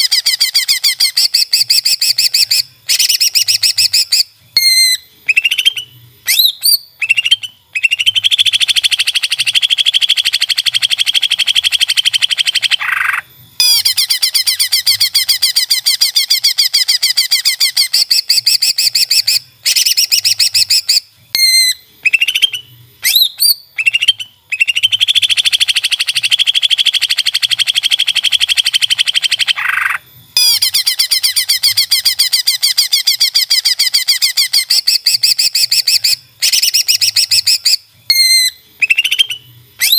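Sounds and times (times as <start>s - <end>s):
bird whistling and chattering trills: 0.0s - 39.9s.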